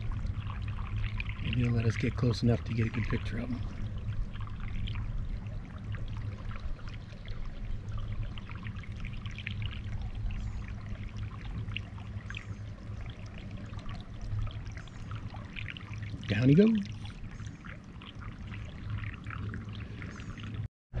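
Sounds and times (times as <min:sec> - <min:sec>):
steady low rumble: 0:00.0 - 0:21.0
water gurgling along kayak hull: 0:00.0 - 0:21.0.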